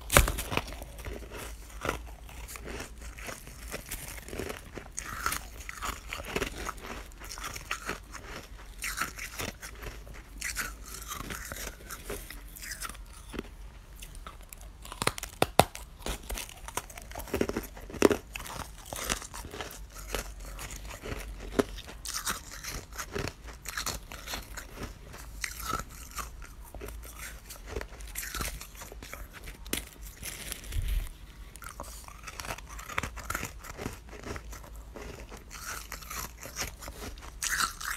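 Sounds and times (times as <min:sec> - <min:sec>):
ice crystals crunched by teeth: 0:00.0 - 0:37.9.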